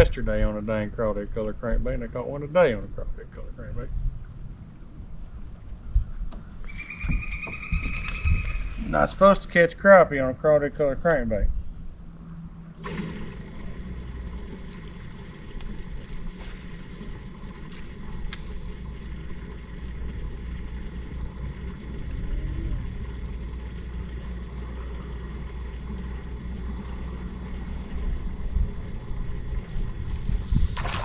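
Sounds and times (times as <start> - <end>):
boat motor rumbling: 0.0 - 31.0.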